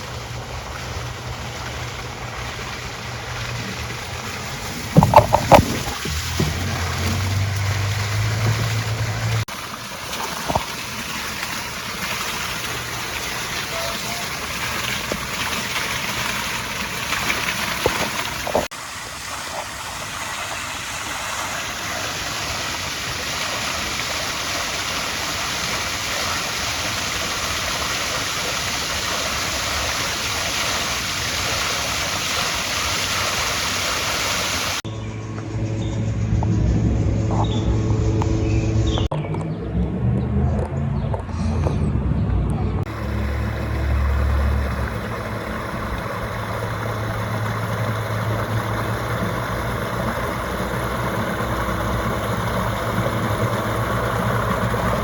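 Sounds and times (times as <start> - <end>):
water pouring and gurgling: 0.0 - 55.0.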